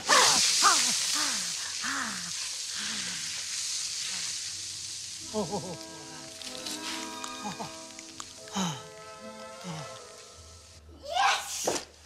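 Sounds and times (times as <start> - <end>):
hot hand sizzling in snow: 0.0 - 11.8.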